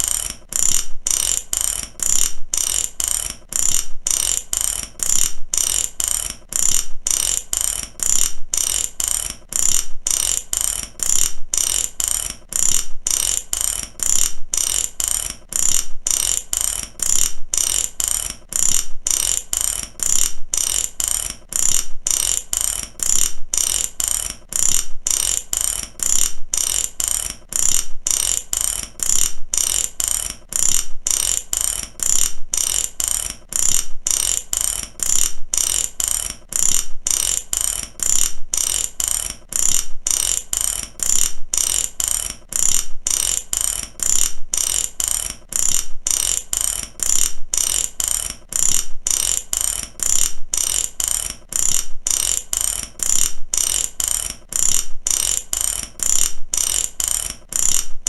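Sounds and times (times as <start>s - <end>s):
ratchet wrench clicking: 0.0s - 58.0s.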